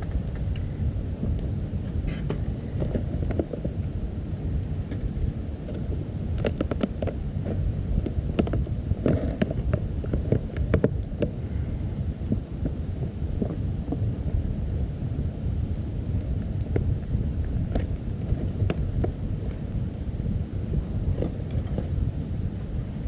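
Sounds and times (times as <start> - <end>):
low rumble of fire: 0.0 - 23.0
wood fire crackling and popping: 0.0 - 23.0.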